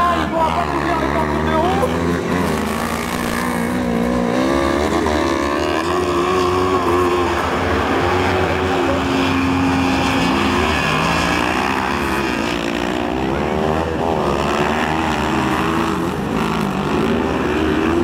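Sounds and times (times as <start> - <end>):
racing buggy engines revving: 0.0 - 18.0.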